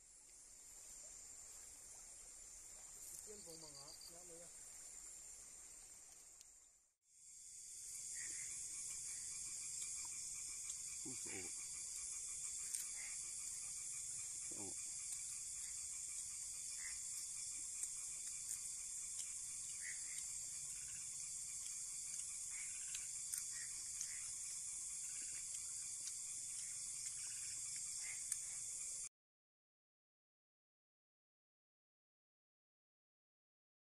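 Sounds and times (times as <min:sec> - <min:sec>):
crickets chirping: 0:00.0 - 0:29.1.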